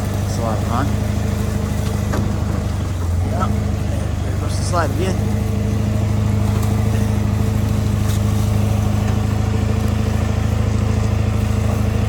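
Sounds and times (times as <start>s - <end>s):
pickup truck engine under load: 0.0s - 12.0s.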